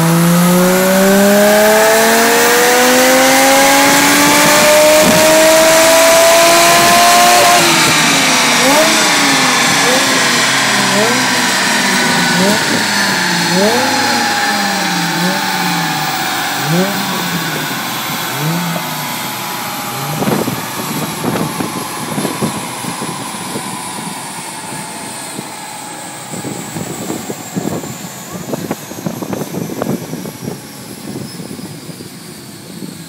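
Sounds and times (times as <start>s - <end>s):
drivetrain whine spinning down: 0.0s - 33.0s.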